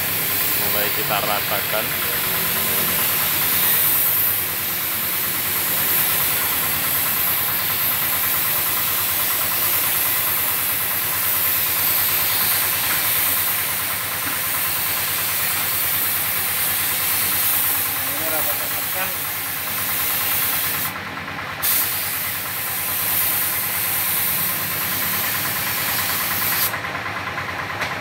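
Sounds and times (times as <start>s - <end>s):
spray gun hissing: 0.0s - 20.9s, 21.6s - 26.8s
air compressor motor running: 0.0s - 28.0s.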